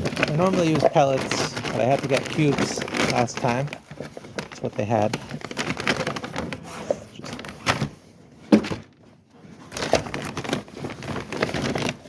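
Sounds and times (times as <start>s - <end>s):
dry cubes clattering and crunching: 0.0s - 7.9s, 9.6s - 12.0s.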